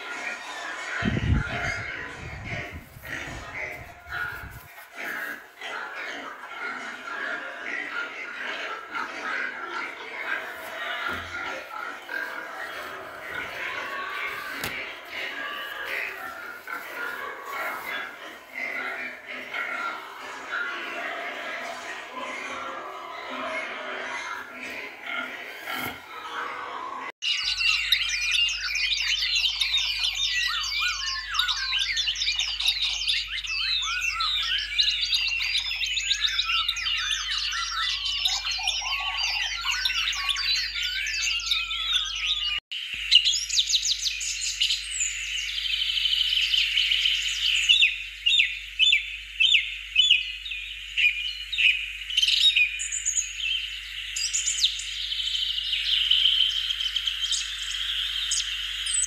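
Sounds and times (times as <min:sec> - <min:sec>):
small birds chirping in chorus: 0:00.0 - 0:59.0.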